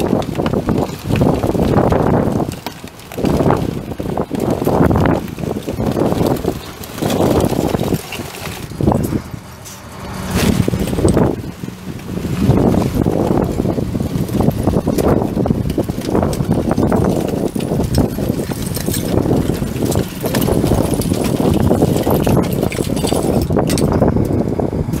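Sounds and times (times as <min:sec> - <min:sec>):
refuse truck engine running: 0:00.0 - 0:25.0.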